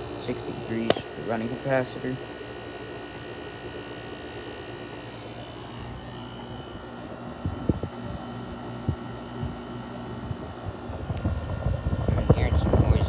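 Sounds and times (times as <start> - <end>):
window air conditioner humming: 0.0 - 13.0.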